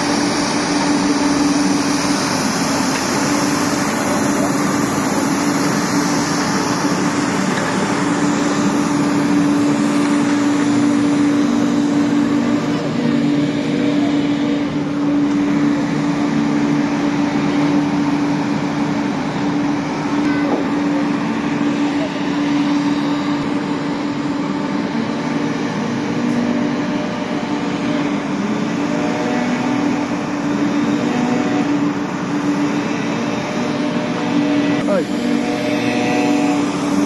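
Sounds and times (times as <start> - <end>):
street sweeper engine hum: 0.0 - 37.0.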